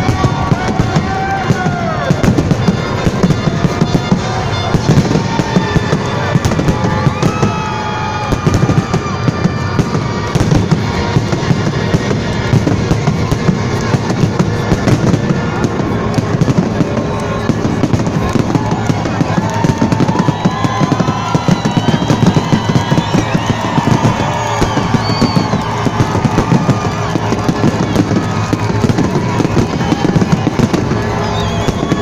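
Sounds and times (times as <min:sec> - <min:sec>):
fireworks crackling and popping: 0:00.0 - 0:32.0
music playing: 0:00.0 - 0:32.0.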